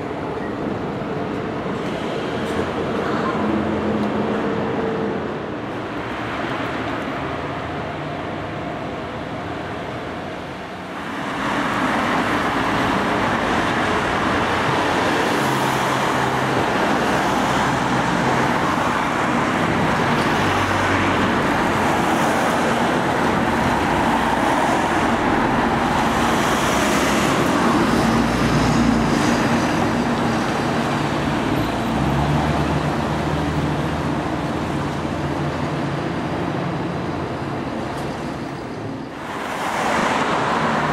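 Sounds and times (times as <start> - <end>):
bus engine driving past: 0.0 - 40.9
road traffic: 0.0 - 40.9.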